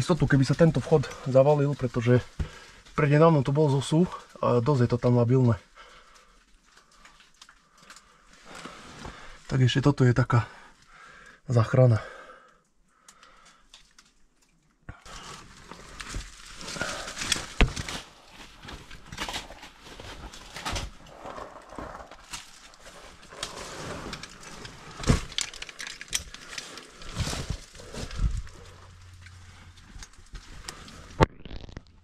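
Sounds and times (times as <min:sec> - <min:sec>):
rustling and scraping over loose rock: 0:00.0 - 0:09.5, 0:15.0 - 0:32.0.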